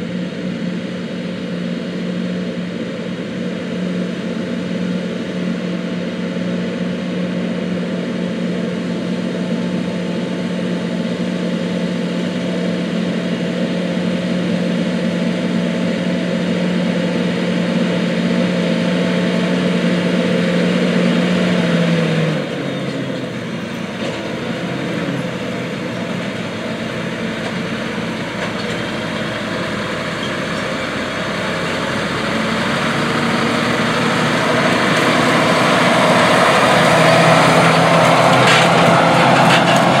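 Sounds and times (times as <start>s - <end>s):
harvester machinery humming: 0.0s - 40.0s.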